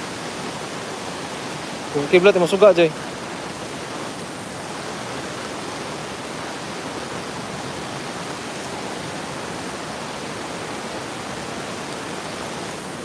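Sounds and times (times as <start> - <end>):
river water rushing over shallows: 0.0 - 13.0.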